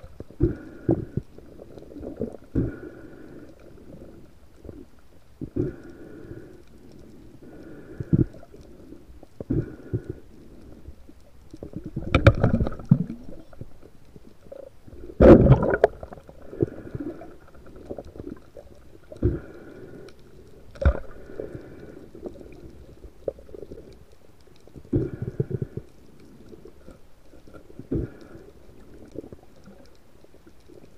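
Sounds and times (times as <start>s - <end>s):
muffled underwater rumbling: 0.0s - 30.9s.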